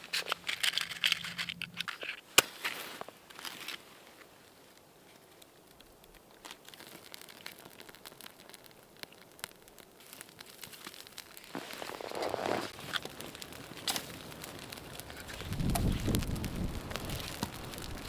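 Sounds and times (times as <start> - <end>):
crinkling and rustling: 0.0 - 18.0.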